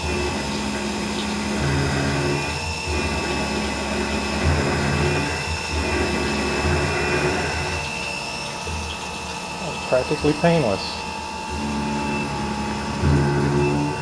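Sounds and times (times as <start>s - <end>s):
milling machine whining: 0.0s - 14.0s.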